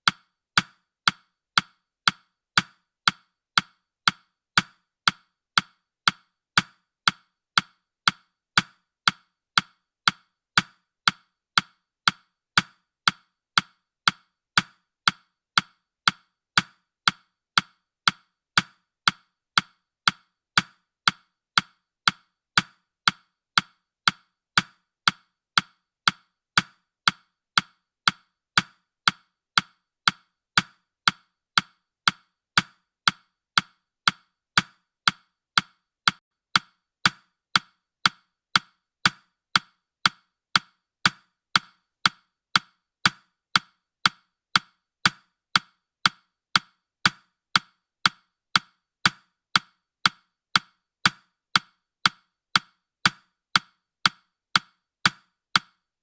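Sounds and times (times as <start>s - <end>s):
clock ticking: 0.0s - 55.8s.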